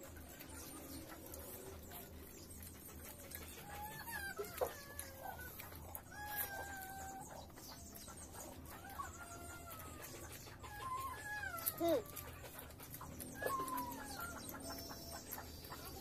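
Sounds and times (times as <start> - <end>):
drawn-out animal calls: 0.0 - 16.0
eating clicks and smacking: 0.0 - 16.0.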